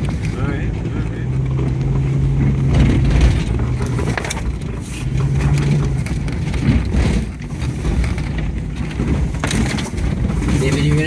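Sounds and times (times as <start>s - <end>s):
car engine running under load: 0.0s - 11.0s
knocks and rattles: 0.0s - 11.0s.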